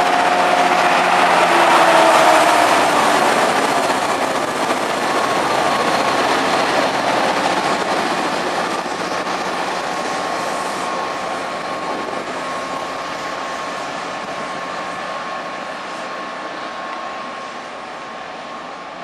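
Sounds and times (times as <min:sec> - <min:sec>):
diesel locomotive engine under power: 0:00.0 - 0:19.0
steady high whine: 0:00.0 - 0:19.0.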